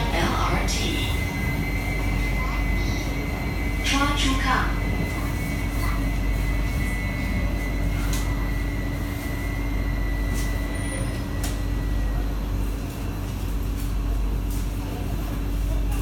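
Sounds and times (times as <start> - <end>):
train cabin low rumble: 0.0 - 16.0.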